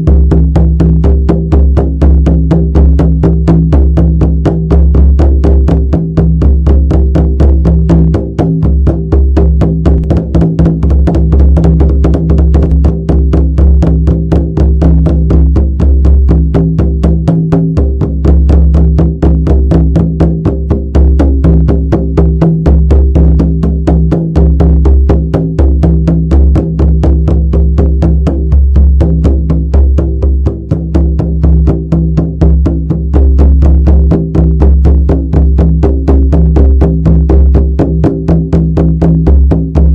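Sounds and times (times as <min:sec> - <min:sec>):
frame drum beaten fast: 0:00.0 - 0:39.9.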